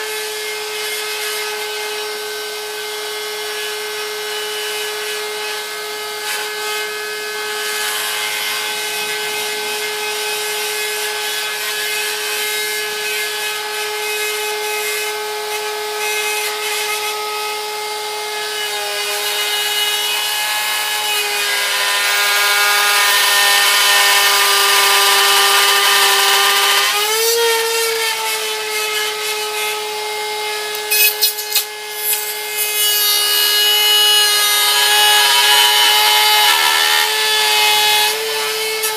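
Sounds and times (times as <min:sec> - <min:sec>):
electric router cutting wood: 0:00.0 - 0:38.9.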